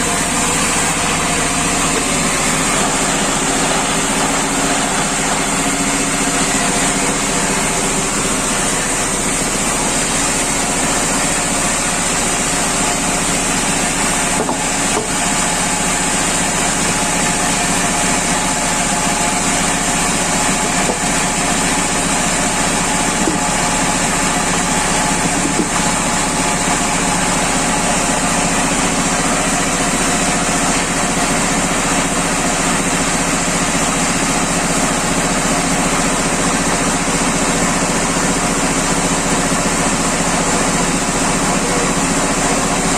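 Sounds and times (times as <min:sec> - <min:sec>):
sawmill machine whining: 0:00.0 - 0:42.9.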